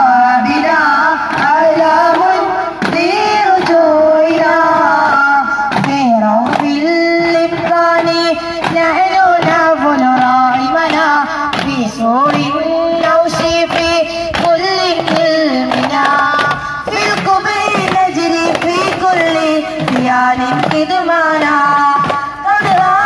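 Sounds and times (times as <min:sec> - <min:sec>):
person singing devotional melody: 0:00.0 - 0:23.0
frame drums beating: 0:00.2 - 0:23.0.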